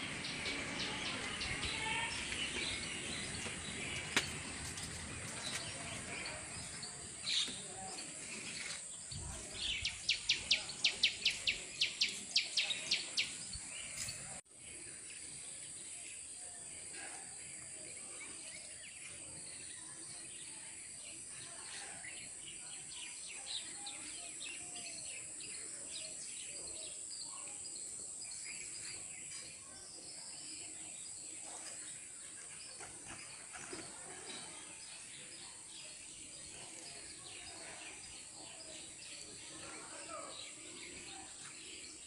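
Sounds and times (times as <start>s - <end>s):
steady outdoor background noise: 0.0s - 42.0s.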